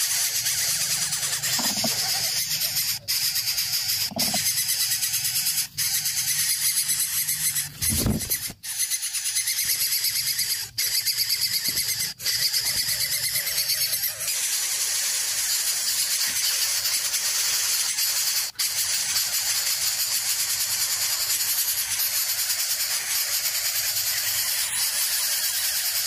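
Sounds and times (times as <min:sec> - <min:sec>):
nestling bird cheeping: 0:00.0 - 0:26.0.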